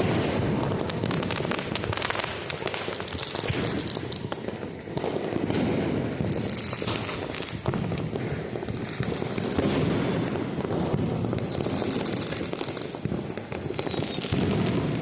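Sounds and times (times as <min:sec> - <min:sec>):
firecrackers crackling and banging: 0:00.0 - 0:15.0.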